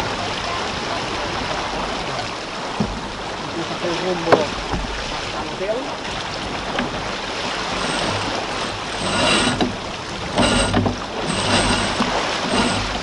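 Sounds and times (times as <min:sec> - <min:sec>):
water rushing along hull: 0:00.0 - 0:13.0
winch hauling line: 0:00.0 - 0:13.0
wind: 0:00.0 - 0:13.0.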